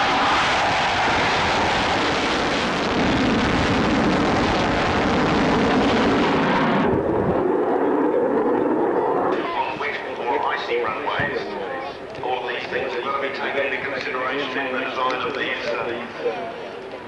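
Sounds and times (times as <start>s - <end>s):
jet engines roaring: 0.0s - 13.9s.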